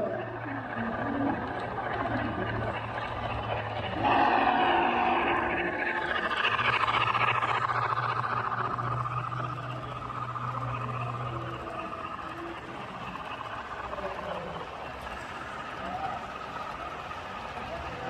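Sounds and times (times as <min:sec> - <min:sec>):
model train motor hum: 0:00.0 - 0:18.0
wheels and gears whirring: 0:00.0 - 0:18.0.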